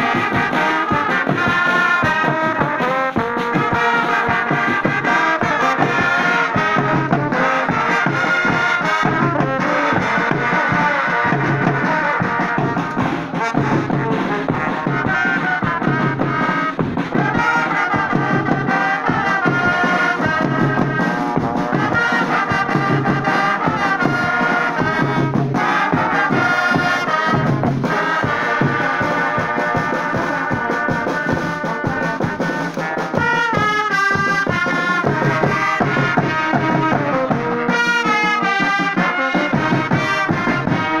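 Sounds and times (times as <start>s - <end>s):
brass band playing: 0.0s - 41.0s.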